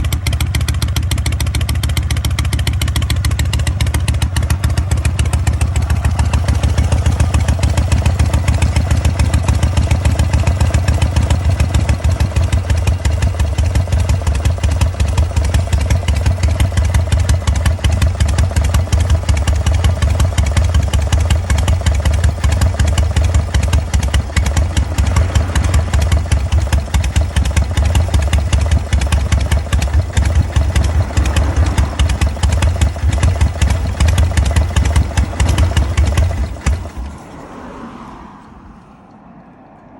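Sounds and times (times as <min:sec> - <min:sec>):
motorcycle engine idling: 0:00.0 - 0:37.6.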